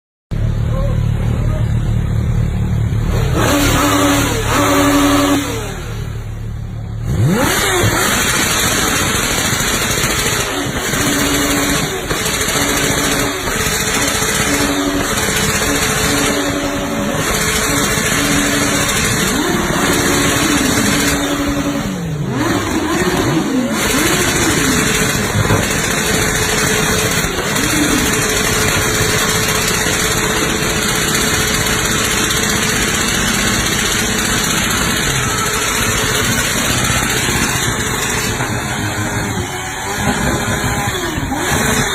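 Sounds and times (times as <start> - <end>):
loud rasping exhaust: 0.3 - 41.9
motorcycle engine revving: 0.3 - 41.9.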